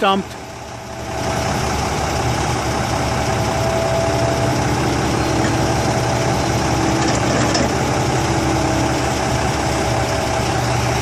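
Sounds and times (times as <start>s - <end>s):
excavator diesel engine running: 0.0s - 11.0s
steady whining tones: 0.0s - 11.0s.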